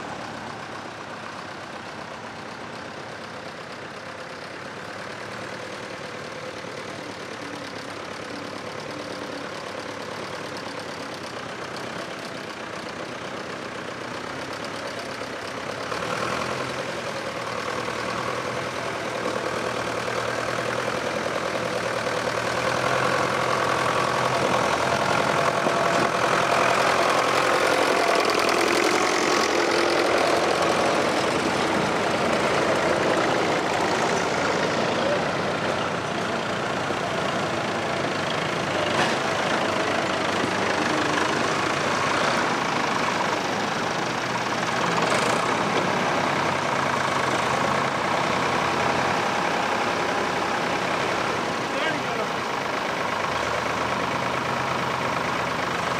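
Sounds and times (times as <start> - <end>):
tractor engines chugging: 0.0 - 55.9.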